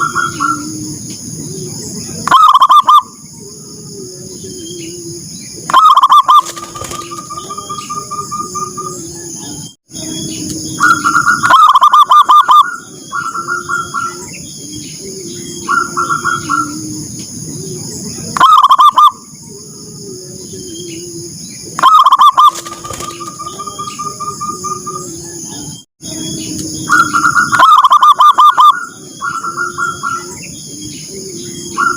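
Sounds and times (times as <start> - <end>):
continuous low cooing: 0.0 - 31.9
rapid repeated dove cooing: 0.0 - 31.9.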